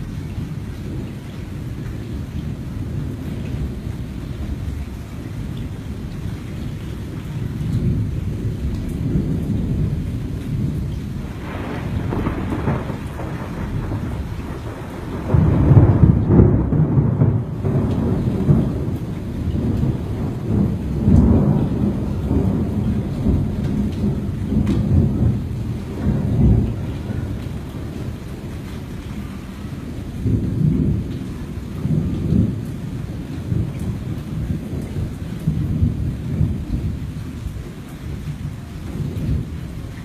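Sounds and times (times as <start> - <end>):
thunder rumbling: 0.0 - 40.0.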